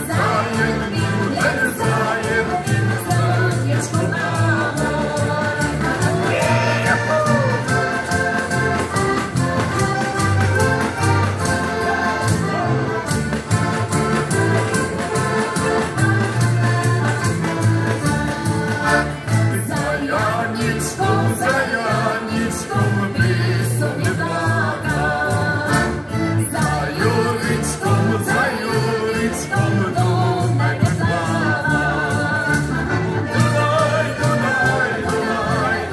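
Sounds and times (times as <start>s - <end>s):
people singing: 0.0s - 12.6s, 15.5s - 35.9s
button accordions playing folk music: 0.0s - 35.9s.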